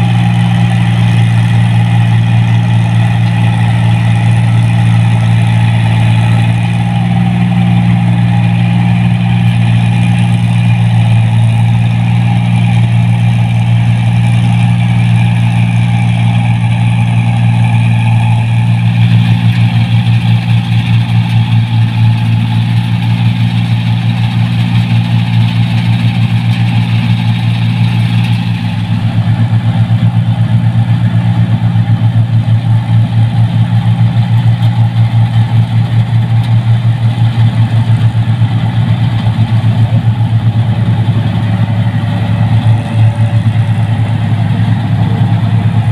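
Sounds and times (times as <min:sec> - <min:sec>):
combine harvester engine drone: 0:00.0 - 0:45.9.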